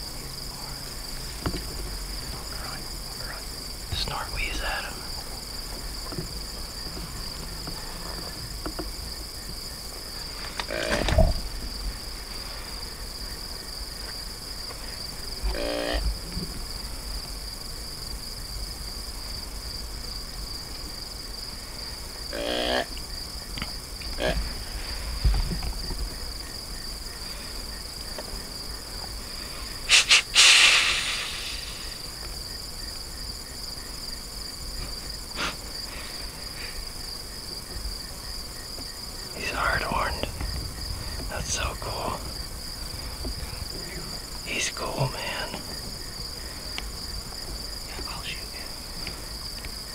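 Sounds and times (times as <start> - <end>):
crickets and insects chirping: 0.0 - 49.9.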